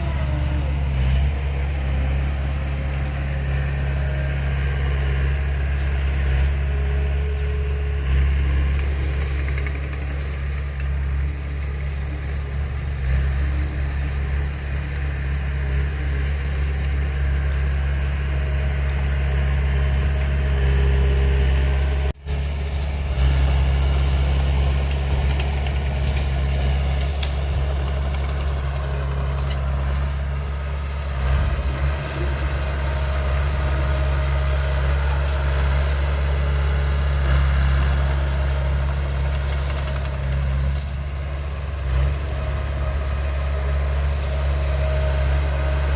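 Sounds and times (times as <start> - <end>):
heavy diesel machinery running: 0.0 - 45.9.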